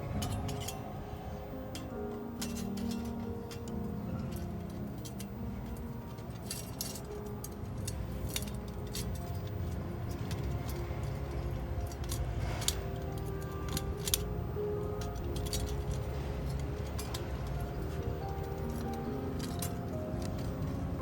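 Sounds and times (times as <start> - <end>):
background music: 0.0 - 21.0
thin metal parts clinking: 0.0 - 21.0.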